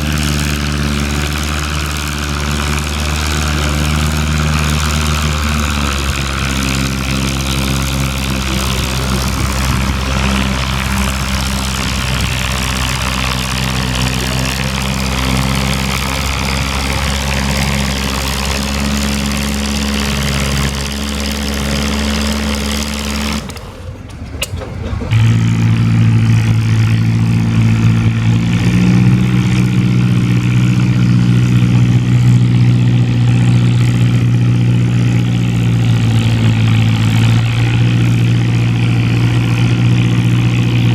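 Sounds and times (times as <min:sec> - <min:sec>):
louder engine running: 0:00.0 - 0:40.9
tractor engine droning: 0:00.0 - 0:40.9.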